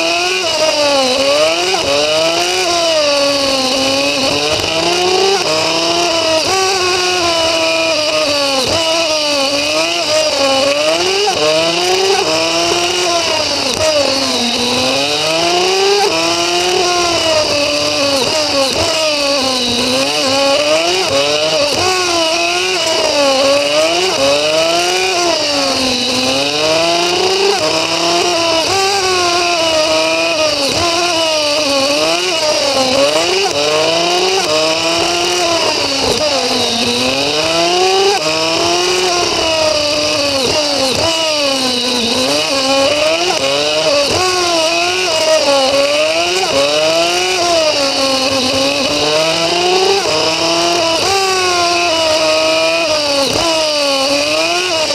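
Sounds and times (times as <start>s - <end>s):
motorbike engine revving: 0.0s - 54.9s.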